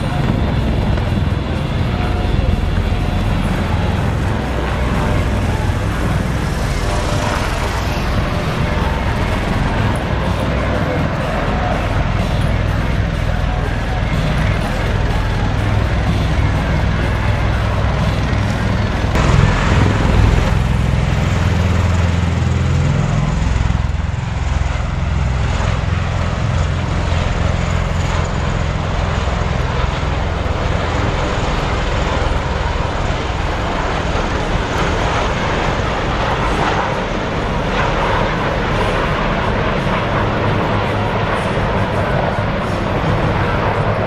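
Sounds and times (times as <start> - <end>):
tiltrotor aircraft rumble: 0.0 - 44.0.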